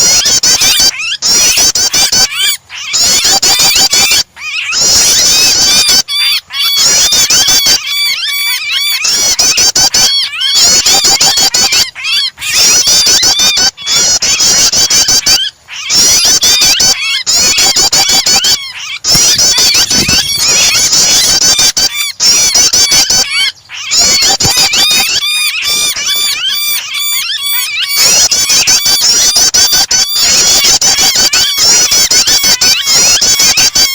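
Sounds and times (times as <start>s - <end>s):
bird rapid chirping: 0.0s - 33.9s
bird shrill distress cries: 0.0s - 33.9s.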